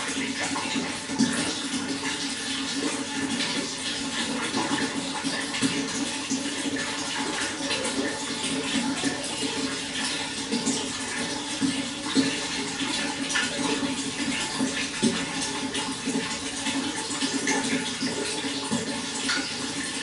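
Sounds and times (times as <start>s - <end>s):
running water with gurgles: 0.0s - 20.0s.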